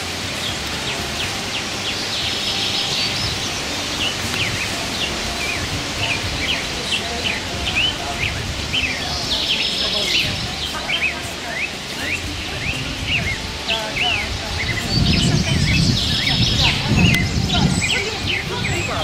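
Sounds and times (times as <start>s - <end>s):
songbirds chirping and whistling: 0.0s - 19.0s
steady outdoor hiss: 0.0s - 19.0s.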